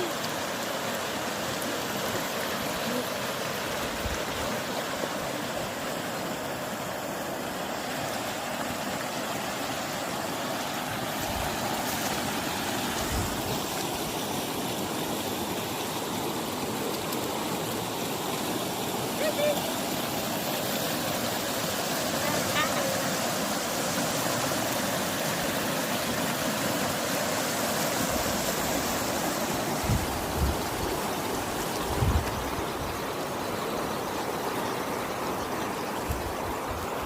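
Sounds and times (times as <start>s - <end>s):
floodwater rushing over road: 0.0s - 37.0s.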